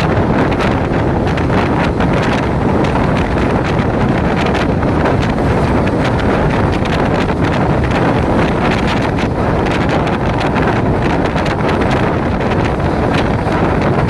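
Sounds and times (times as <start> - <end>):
train rumbling: 0.0 - 14.0
wind buffeting microphone: 0.0 - 14.0.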